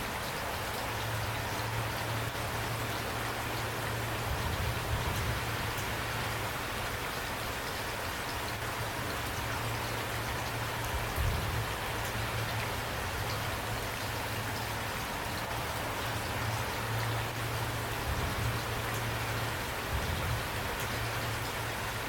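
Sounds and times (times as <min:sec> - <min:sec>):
rain pattering on a surface: 0:00.0 - 0:22.0.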